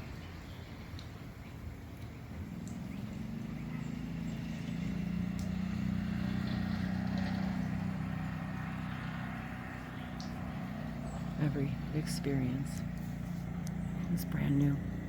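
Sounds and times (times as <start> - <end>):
distant vehicle engine hum: 0.0 - 15.0.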